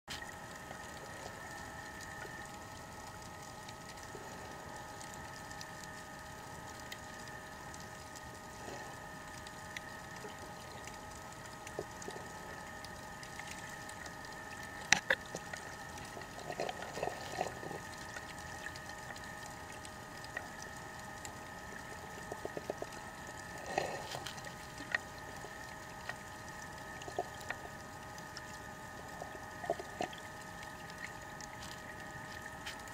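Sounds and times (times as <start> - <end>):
sharp underwater clicks: 0.1 - 32.9
underwater hum of held tones: 0.1 - 32.9.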